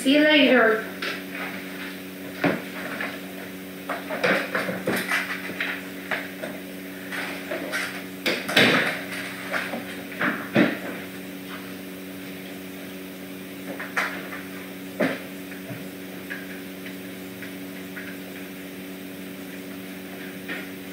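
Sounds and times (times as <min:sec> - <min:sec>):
low equipment hum: 0:00.0 - 0:20.9.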